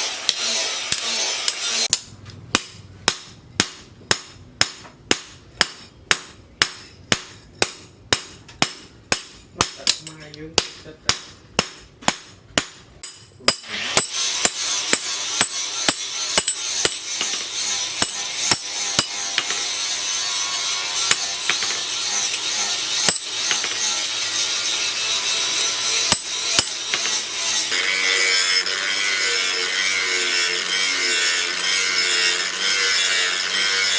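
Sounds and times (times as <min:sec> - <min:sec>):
hammer striking steel on anvil: 0:00.3 - 0:27.8.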